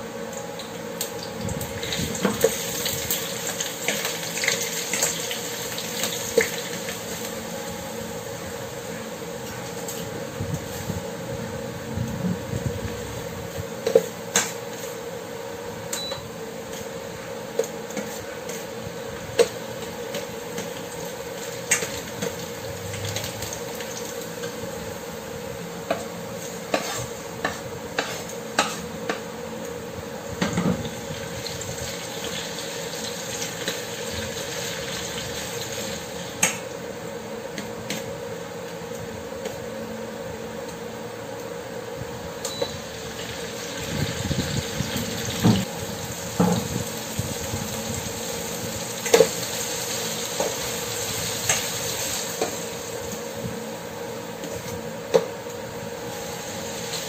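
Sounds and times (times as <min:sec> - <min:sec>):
onion and tomato sizzling in oil: 0:00.0 - 0:11.1, 0:12.9 - 0:36.9, 0:42.4 - 0:57.0
steady hum: 0:00.0 - 0:57.0.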